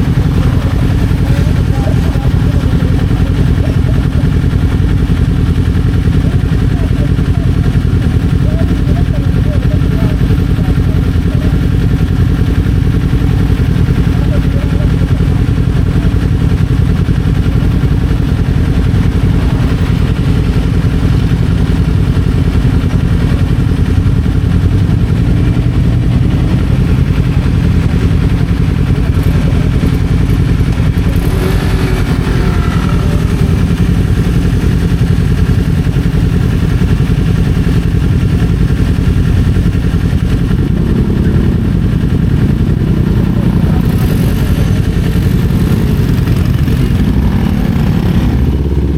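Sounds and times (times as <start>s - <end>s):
motorcycle engine rumbling: 0.0s - 48.9s.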